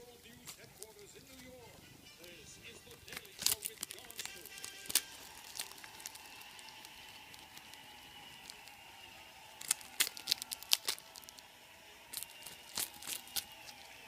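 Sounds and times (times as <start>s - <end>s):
dried seaweed crunching: 0.0s - 14.0s.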